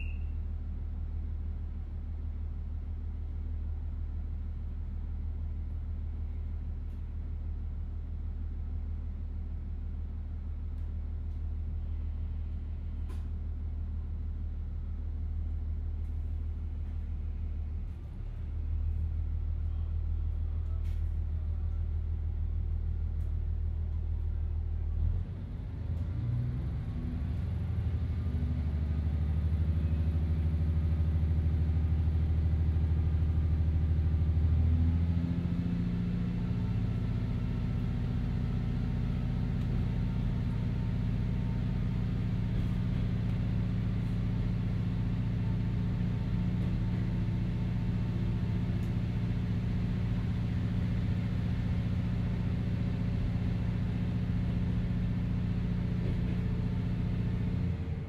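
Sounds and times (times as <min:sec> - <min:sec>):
diesel railcar engine humming: 0:00.0 - 0:58.0.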